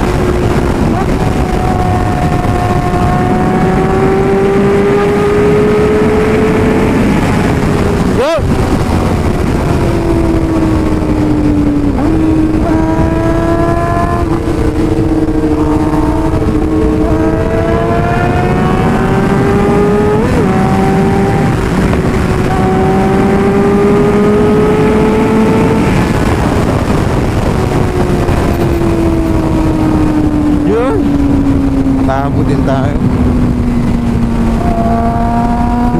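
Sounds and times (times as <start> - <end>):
heavy wind rush: 0.0 - 35.9
motorcycle engines at speed: 0.0 - 35.9.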